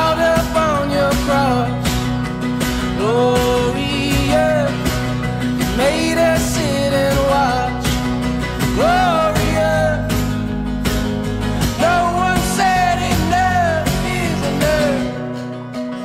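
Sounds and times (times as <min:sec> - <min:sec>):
rock guitar and drum beat: 0:00.0 - 0:16.0.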